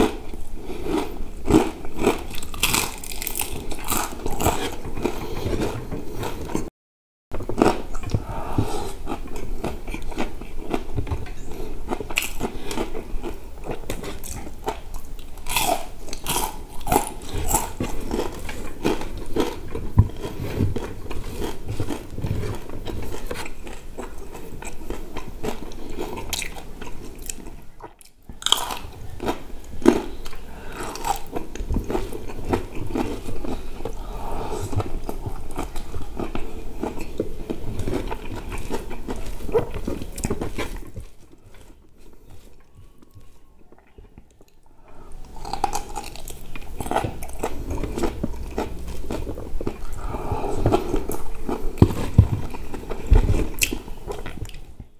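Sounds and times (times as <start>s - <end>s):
crunching crispy coating: 0.0s - 6.6s, 7.4s - 44.6s, 45.2s - 54.7s
chewing and mouth smacking: 0.0s - 6.7s, 7.4s - 54.9s.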